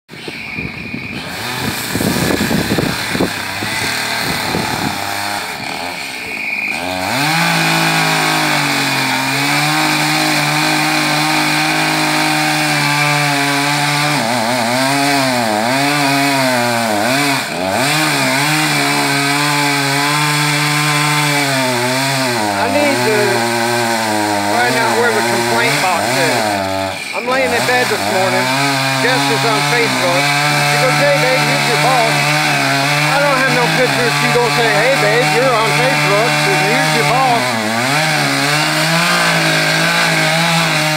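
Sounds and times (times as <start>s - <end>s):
chainsaw revving and cutting wood: 0.1s - 40.9s.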